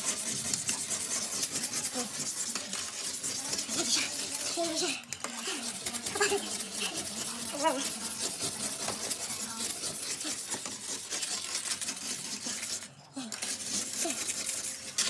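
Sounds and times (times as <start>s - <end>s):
pumice scraping glass cooktop: 0.0s - 15.0s.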